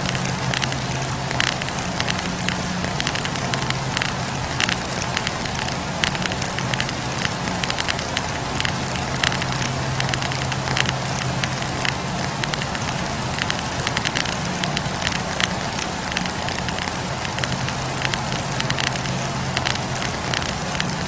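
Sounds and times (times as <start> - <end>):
campfire crackling and popping: 0.0 - 21.0
low steady hum: 0.0 - 21.0
steady hiss: 0.0 - 21.0.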